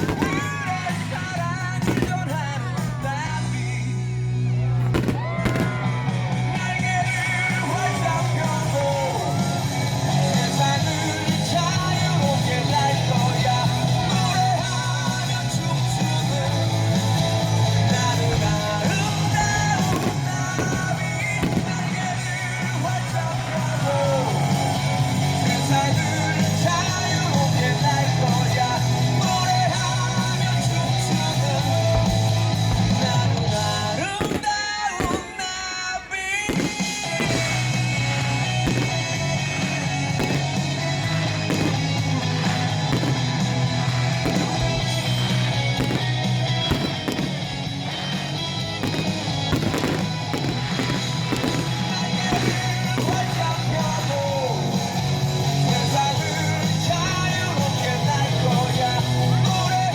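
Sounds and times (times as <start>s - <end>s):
fireworks bursting: 0.0s - 3.9s, 4.7s - 59.9s
rock song over loudspeakers: 0.0s - 59.9s.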